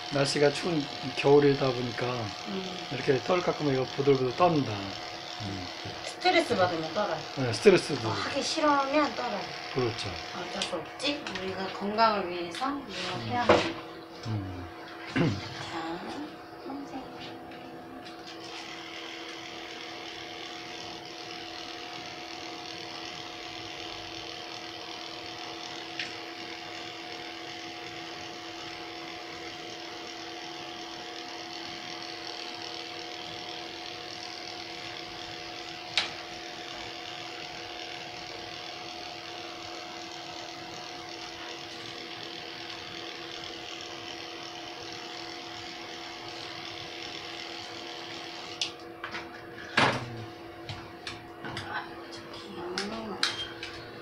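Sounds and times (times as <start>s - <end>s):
electric pet clippers buzzing: 0.0s - 54.0s.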